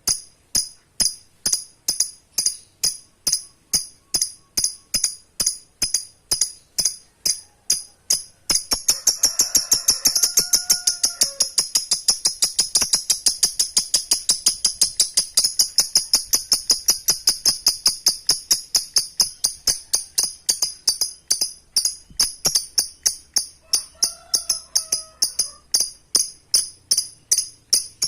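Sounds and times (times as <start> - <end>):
lovebird chattering trill: 1.9 - 5.2, 5.8 - 28.0.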